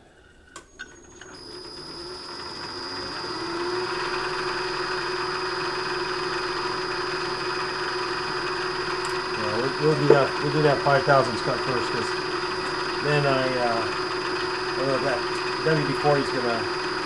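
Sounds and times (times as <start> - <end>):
motor hum: 0.1 - 17.0
milling machine spindle whining: 0.6 - 17.0.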